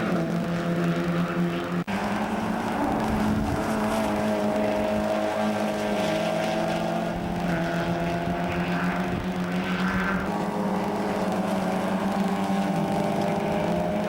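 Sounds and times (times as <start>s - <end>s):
race car engine running: 0.0s - 14.0s.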